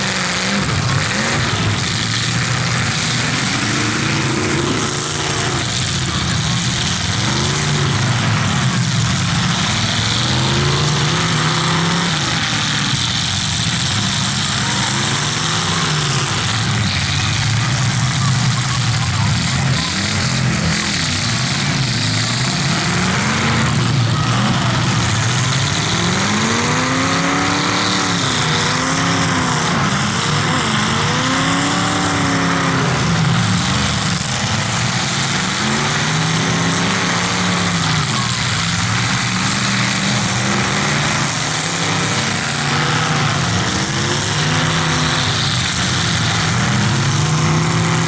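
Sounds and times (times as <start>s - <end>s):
car engines revving: 0.0s - 48.0s
loud constant engine noise: 0.0s - 48.0s.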